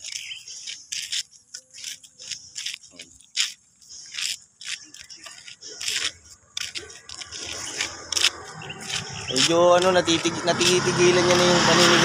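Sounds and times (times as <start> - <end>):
footsteps scraping on concrete: 0.0 - 12.0.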